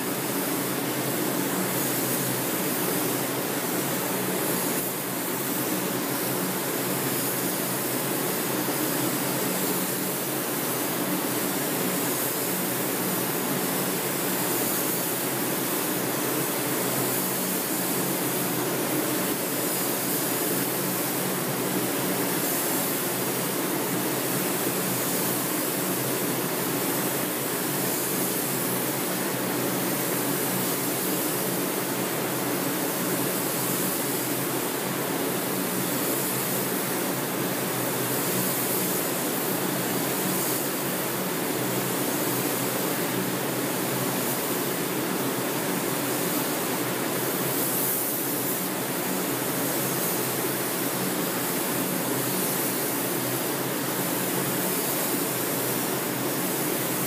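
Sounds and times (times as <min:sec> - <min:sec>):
ventilation rush and hum: 0:00.0 - 0:57.0
paint spray gun hissing: 0:00.1 - 0:57.0.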